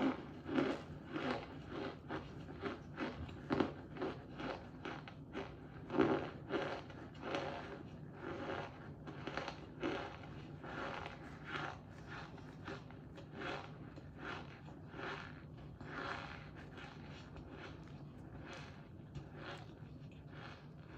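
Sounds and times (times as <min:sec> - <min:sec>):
crunchy chewing: 0:00.0 - 0:20.9.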